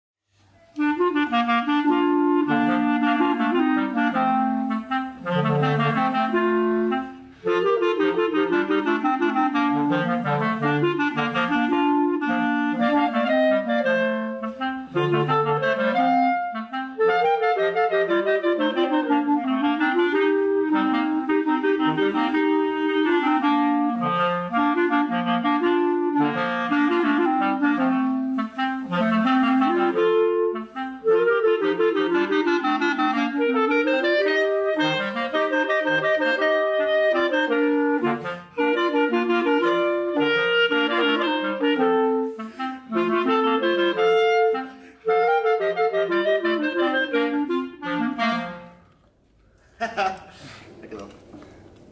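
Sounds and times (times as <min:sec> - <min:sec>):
clarinet duet: 0:00.3 - 0:49.2.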